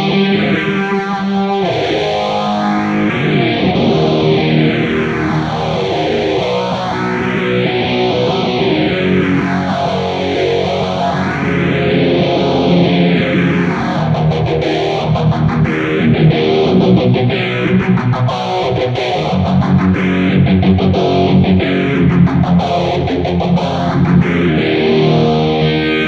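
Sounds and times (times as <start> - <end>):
electric guitar chords with phaser: 0.0 - 26.0.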